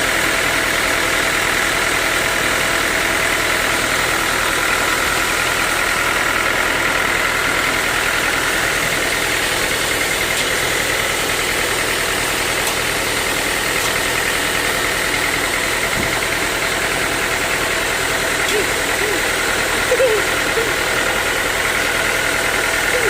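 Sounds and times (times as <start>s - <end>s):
sawmill machinery drone: 0.0s - 23.0s.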